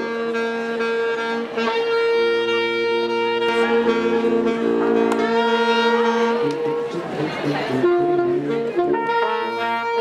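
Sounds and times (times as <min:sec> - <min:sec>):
brass band playing marching music: 0:00.0 - 0:10.0.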